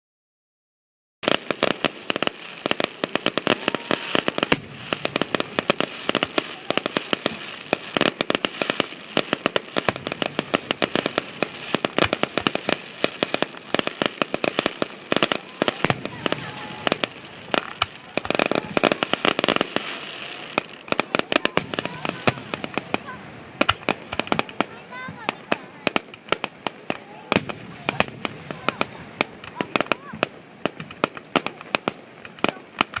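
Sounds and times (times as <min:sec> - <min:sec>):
fireworks popping and banging: 0:01.2 - 0:33.0.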